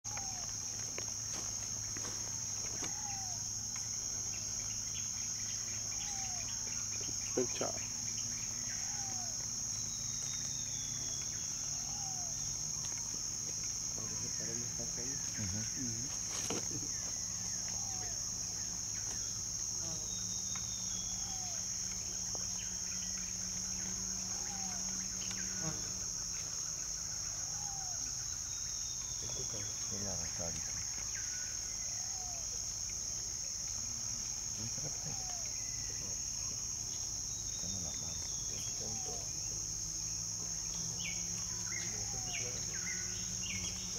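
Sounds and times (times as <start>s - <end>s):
high-pitched insect drone: 0.1s - 43.9s.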